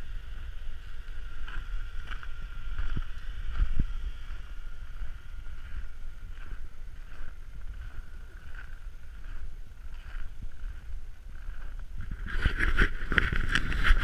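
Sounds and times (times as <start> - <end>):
faint high whine: 0.0 - 14.0
wind rumbling on microphone: 0.0 - 14.0.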